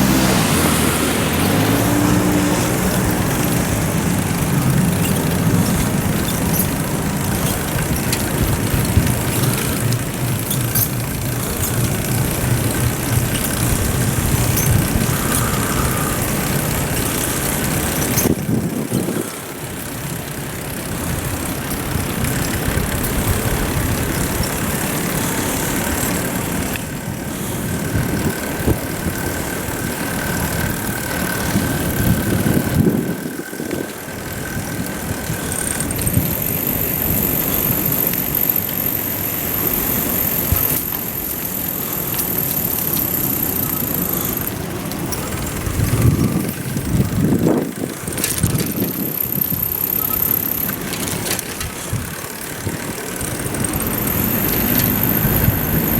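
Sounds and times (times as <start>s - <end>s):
road rumble: 0.0s - 55.9s.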